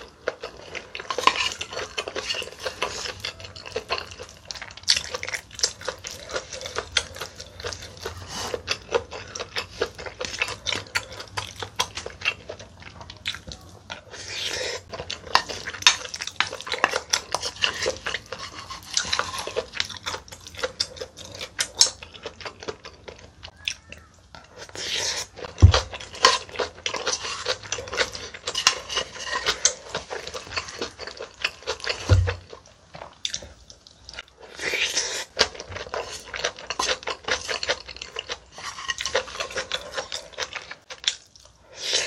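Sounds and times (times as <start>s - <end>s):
chewing: 0.0s - 42.0s.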